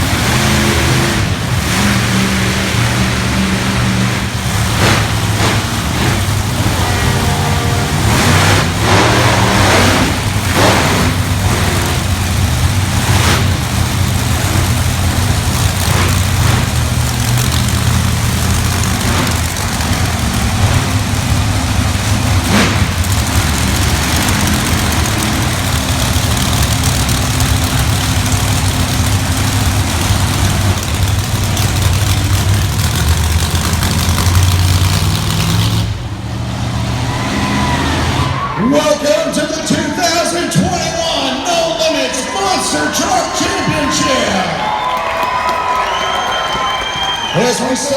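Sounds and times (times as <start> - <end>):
truck engines rumbling: 0.0 - 47.9.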